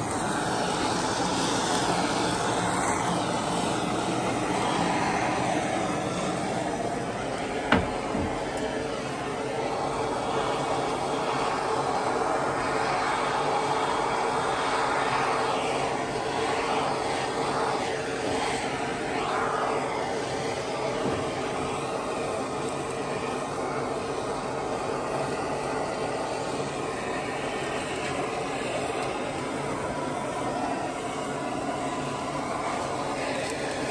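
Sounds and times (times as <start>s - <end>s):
gas torch flame roaring: 0.0s - 33.9s.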